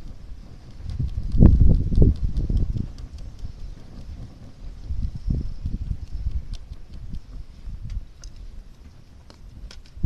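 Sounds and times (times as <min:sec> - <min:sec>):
faint ticks: 0:00.0 - 0:10.0
rumbling buffets on microphone: 0:00.0 - 0:10.0.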